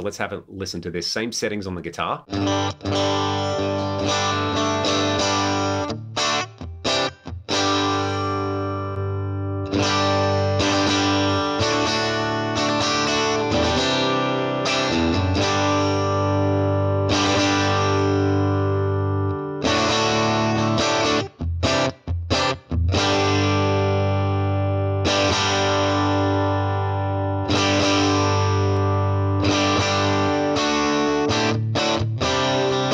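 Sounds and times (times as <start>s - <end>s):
distorted electric guitar chords: 2.3s - 32.9s.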